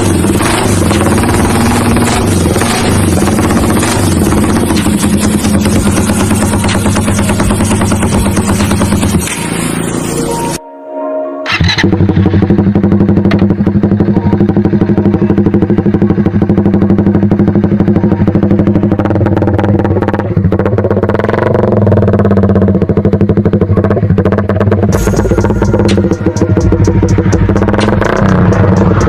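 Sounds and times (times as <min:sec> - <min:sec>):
motorcycle engine running: 0:00.0 - 0:10.6, 0:11.5 - 0:29.0.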